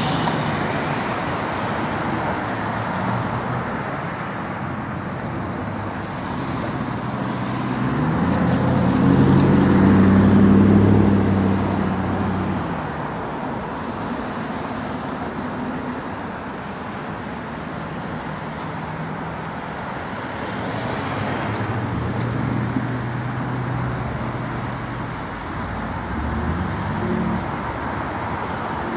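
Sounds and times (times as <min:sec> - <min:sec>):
steady road traffic: 0:00.0 - 0:28.9.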